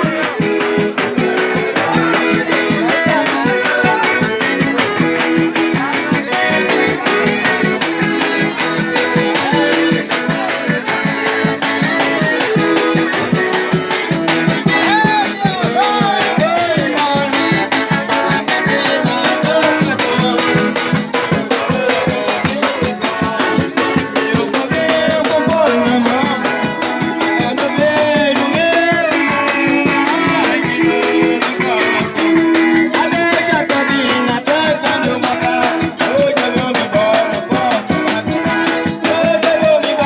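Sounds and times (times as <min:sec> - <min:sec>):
music with shaker percussion: 0:00.0 - 0:40.0.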